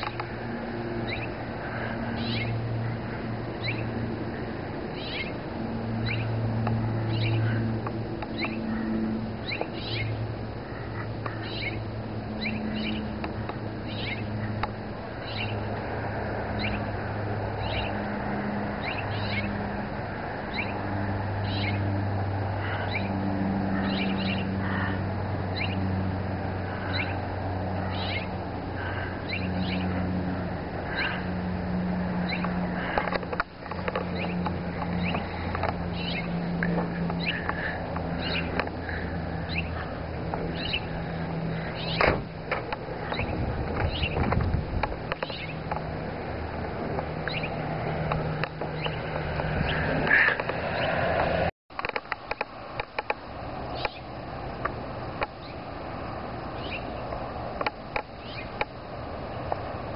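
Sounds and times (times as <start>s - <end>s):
low hum: 0.0s - 51.9s
birds chirping: 0.0s - 59.9s.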